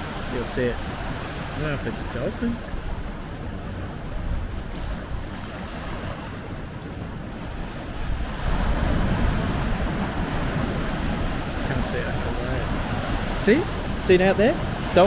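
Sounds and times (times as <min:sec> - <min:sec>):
ocean surf washing: 0:00.0 - 0:15.0
wind on microphone: 0:00.0 - 0:15.0.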